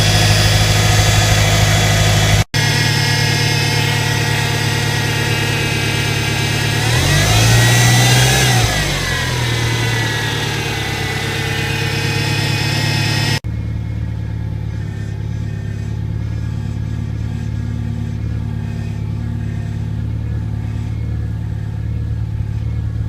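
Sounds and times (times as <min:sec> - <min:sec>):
car engine idling: 0:00.0 - 0:23.0
power steering pump whine: 0:00.0 - 0:23.0.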